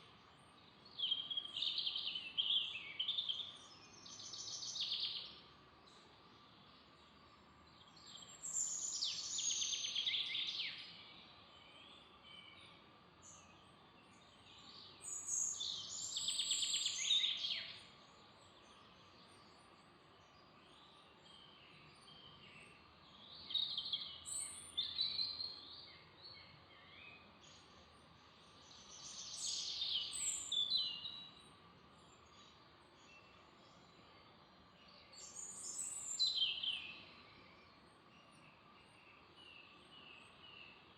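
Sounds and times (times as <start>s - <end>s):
quiet steady hiss: 0.0s - 40.9s
songbird singing: 0.0s - 40.9s.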